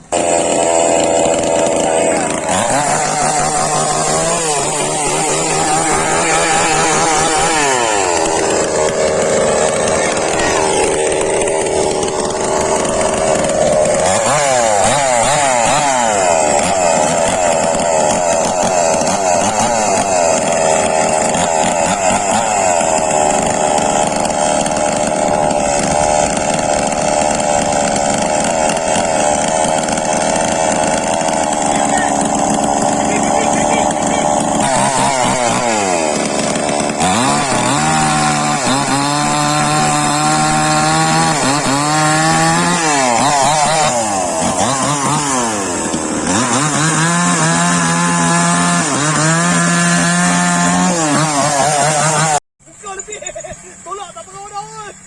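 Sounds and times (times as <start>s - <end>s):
two-stroke engine revving: 0.0s - 52.4s.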